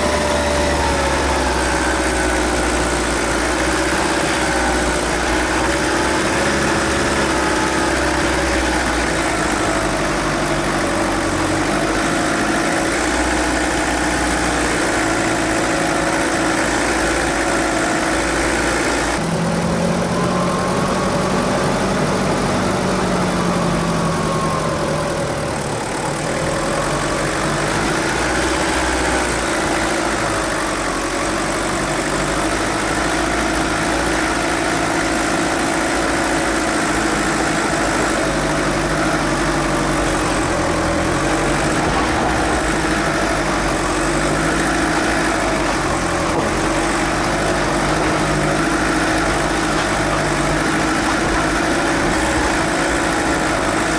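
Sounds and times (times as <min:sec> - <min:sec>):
diesel engine running at low revs: 0:00.0 - 0:53.9.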